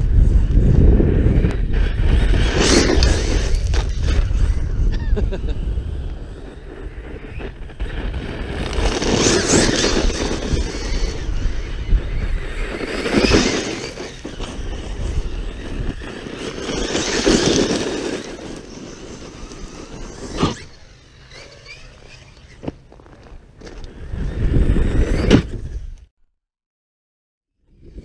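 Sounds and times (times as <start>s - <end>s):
tires crunching over gravel: 0.0s - 4.7s, 5.7s - 25.6s
electric motor whining: 0.0s - 26.0s.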